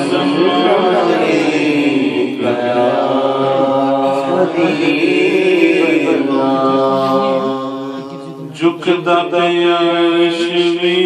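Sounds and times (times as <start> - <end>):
man singing devotional chant: 0.0 - 11.0.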